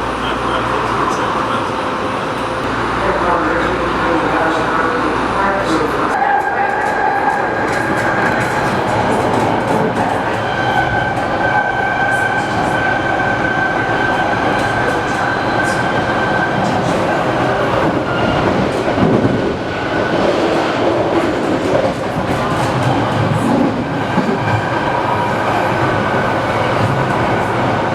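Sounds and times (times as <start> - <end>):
high train whine: 0.0 - 27.9
train rumbling on track: 0.0 - 27.9.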